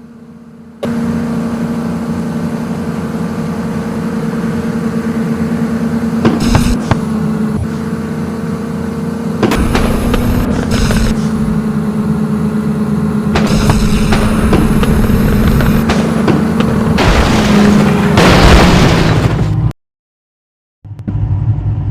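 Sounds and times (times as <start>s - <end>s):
engine droning: 0.0s - 19.7s, 20.9s - 21.9s.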